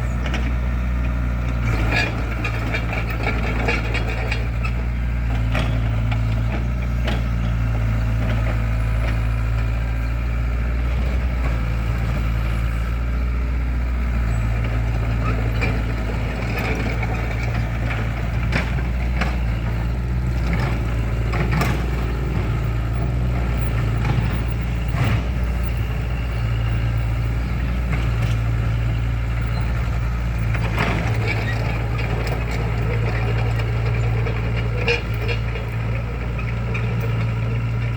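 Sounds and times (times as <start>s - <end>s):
excavator diesel engine humming: 0.0s - 37.9s.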